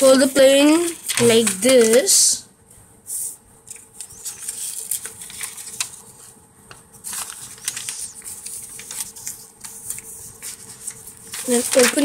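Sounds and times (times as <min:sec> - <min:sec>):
paper rustling and crackling: 0:00.7 - 0:02.3, 0:03.7 - 0:12.0.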